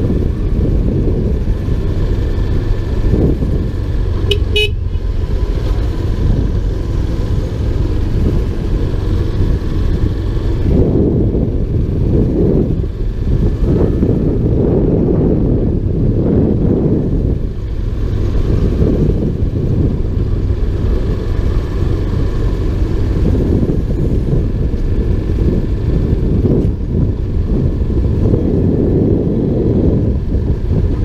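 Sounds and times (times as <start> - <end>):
motorcycle engine cruising: 0.0 - 31.0
wind buffeting microphone: 0.0 - 31.0.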